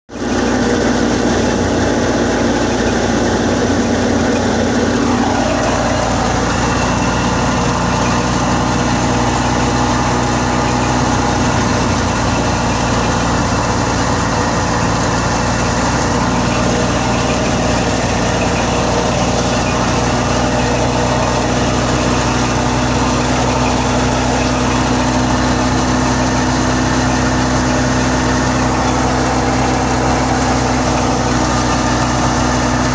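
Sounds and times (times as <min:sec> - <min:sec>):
thresher engine running: 0:00.1 - 0:32.9
high-pitched machine whine: 0:00.2 - 0:32.9.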